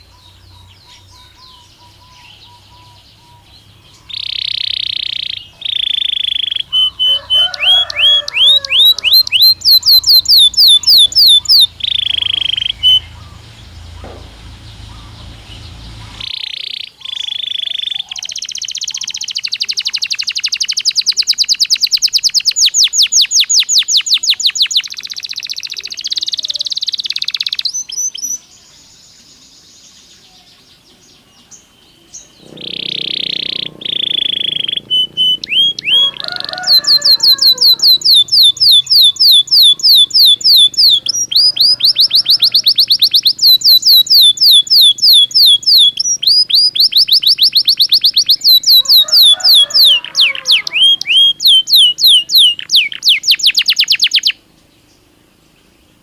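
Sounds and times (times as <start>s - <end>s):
canary singing: 0.0s - 29.0s, 30.2s - 54.4s.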